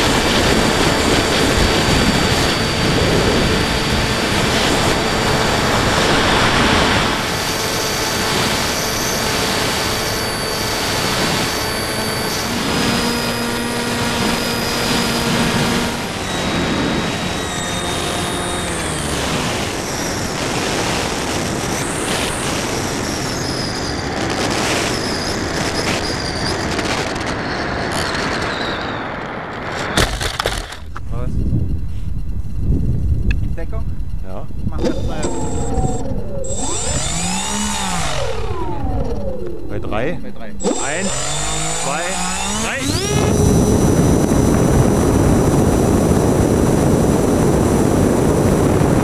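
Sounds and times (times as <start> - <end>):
model airplane motor whine: 0.0 - 29.1, 31.7 - 49.0
wind rushing on microphone: 0.0 - 49.0.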